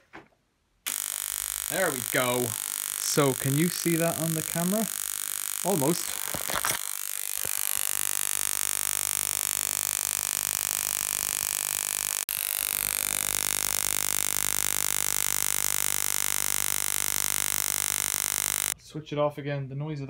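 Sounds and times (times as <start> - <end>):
ignition coil sparking buzz: 0.8 - 18.8.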